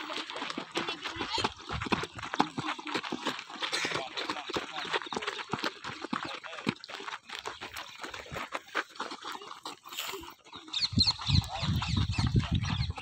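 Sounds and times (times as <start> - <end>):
footballs tapping against feet: 0.0 - 13.0
footsteps scuffing on dirt: 0.0 - 13.0.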